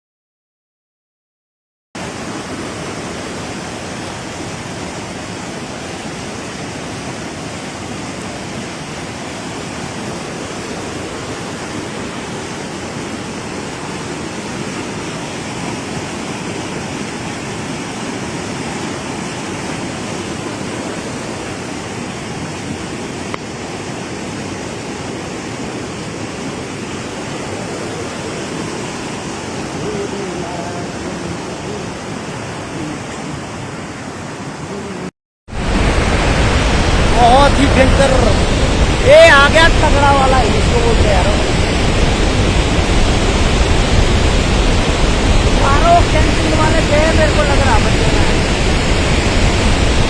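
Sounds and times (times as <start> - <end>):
river water rushing: 2.0 - 50.0.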